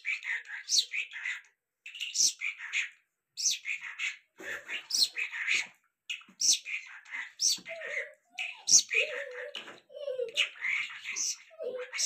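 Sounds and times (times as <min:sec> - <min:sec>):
lark singing chirps and trills: 0:00.0 - 0:04.2, 0:04.8 - 0:12.0.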